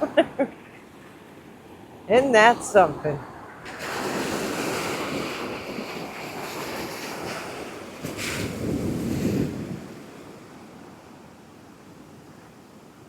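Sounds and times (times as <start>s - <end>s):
heavy surf breaking: 0.0s - 11.0s
wind buffeting microphone: 0.0s - 11.1s.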